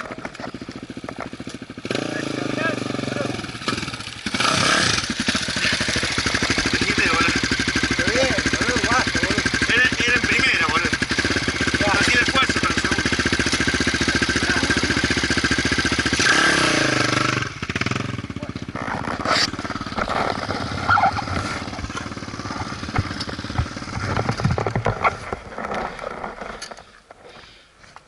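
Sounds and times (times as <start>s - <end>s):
motorcycle engine running loudly: 0.0s - 26.5s.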